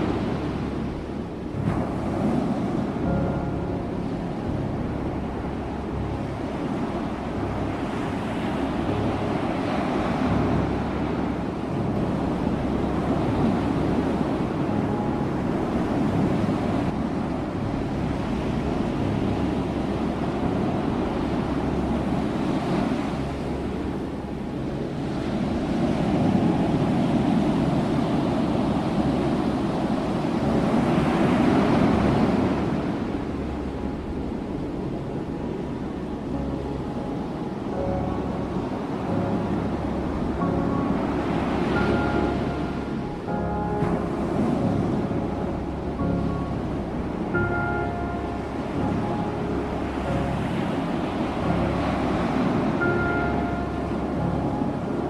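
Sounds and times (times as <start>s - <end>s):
ocean waves washing on shore: 0.0s - 55.0s.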